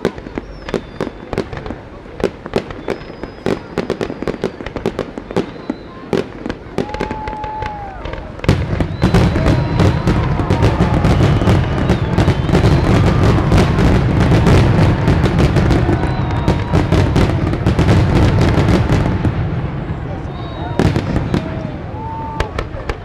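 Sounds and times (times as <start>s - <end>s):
firework whistles: 0.0s - 1.7s, 2.5s - 19.0s, 20.1s - 23.0s
firework bangs and crackles: 0.0s - 23.0s.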